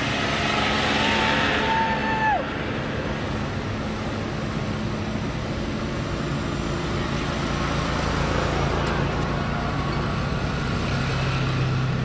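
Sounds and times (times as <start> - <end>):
small engines driving past: 0.0 - 12.0.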